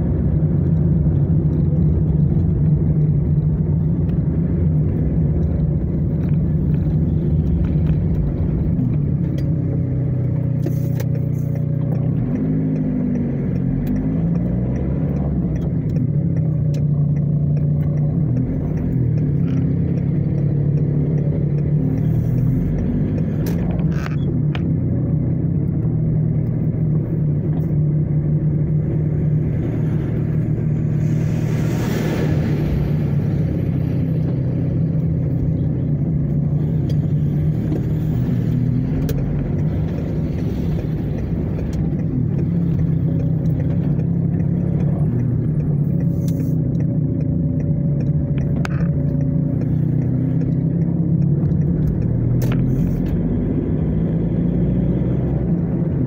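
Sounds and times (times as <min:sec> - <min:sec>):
car engine and tyres hum: 0:00.0 - 0:56.0.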